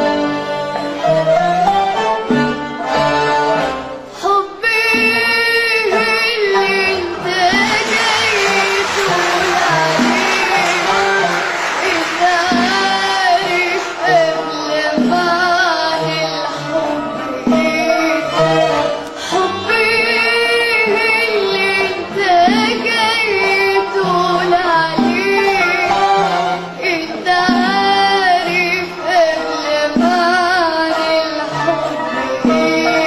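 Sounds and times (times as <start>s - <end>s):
band accompaniment: 0.0s - 33.0s
girl singing: 4.2s - 25.9s, 26.8s - 33.0s.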